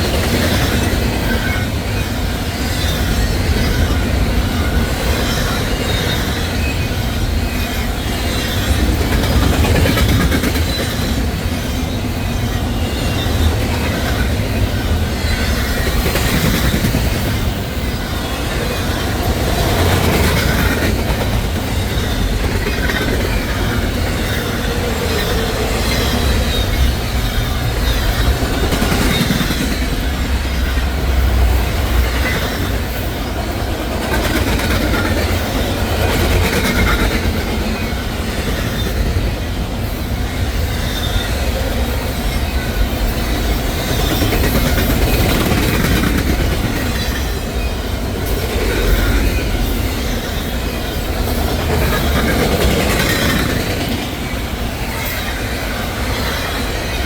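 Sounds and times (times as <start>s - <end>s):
freight train rumbling past: 0.0s - 57.0s
wheels clickety-clack: 0.0s - 57.0s
wheel squeal: 0.3s - 30.8s, 40.0s - 57.0s.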